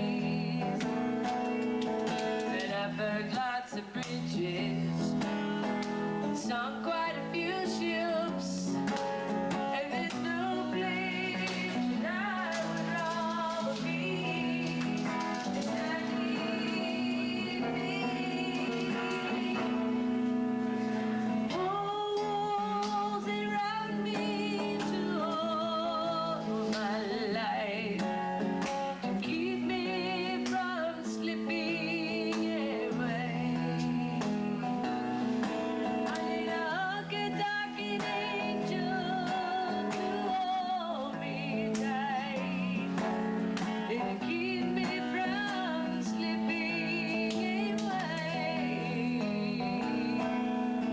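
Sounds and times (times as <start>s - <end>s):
person singing with vibrato: 0.0s - 50.9s
plucked guitar: 0.0s - 50.9s.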